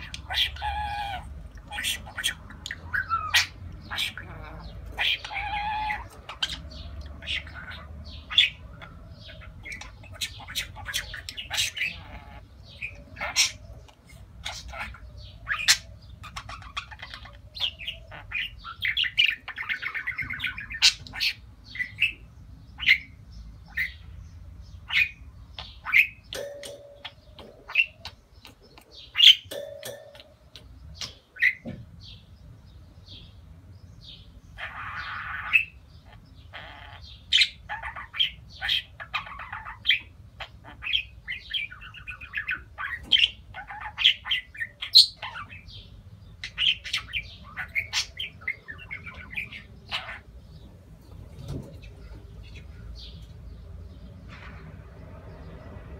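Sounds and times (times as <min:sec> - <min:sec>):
budgerigar chirping and warbling: 0:00.0 - 0:24.0, 0:24.8 - 0:31.7, 0:34.5 - 0:50.6.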